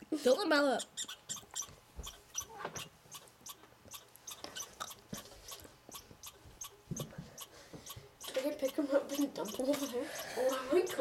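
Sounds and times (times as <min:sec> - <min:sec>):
squirrel clicking and squeaking: 0:00.2 - 0:11.0.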